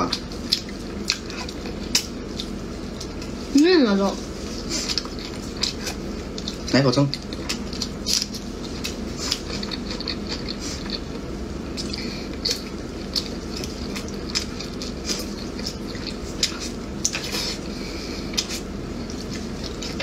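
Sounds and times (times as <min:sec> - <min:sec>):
wet chewing and lip smacks: 0:00.0 - 0:03.4, 0:04.8 - 0:17.7
low steady hum: 0:00.0 - 0:20.0.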